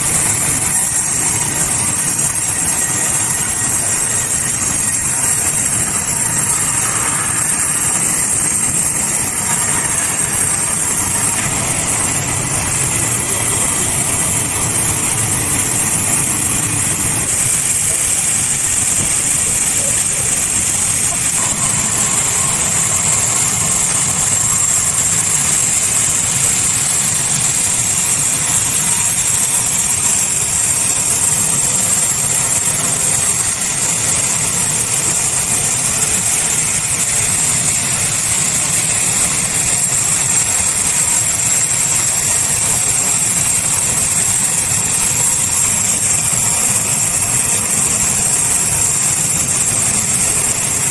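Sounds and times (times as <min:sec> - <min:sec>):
sawmill sawing a log: 0:00.0 - 0:50.9.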